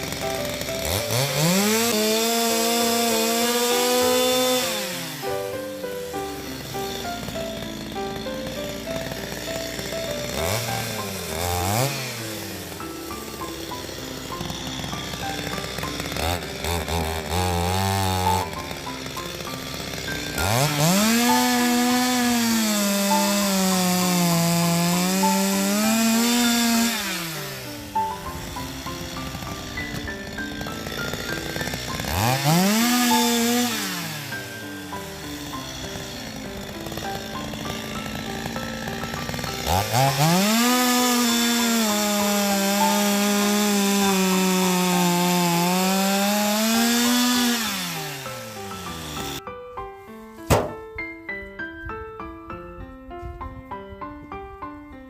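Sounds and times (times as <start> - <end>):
two-stroke chainsaw revving: 0.0 - 49.4.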